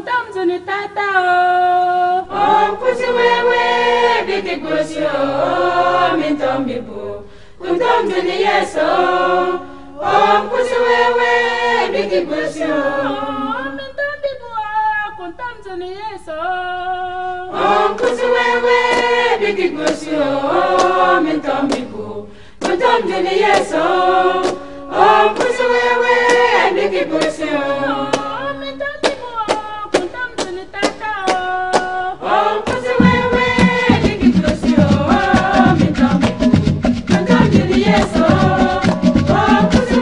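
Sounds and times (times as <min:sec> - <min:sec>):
choir singing gospel song: 0:00.0 - 0:14.0, 0:16.2 - 0:40.0.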